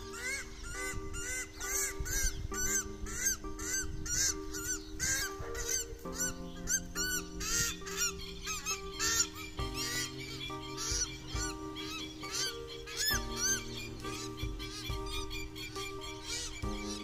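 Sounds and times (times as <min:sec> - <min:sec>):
background music with chords: 0:00.0 - 0:17.0
honking bird calls: 0:00.0 - 0:17.0.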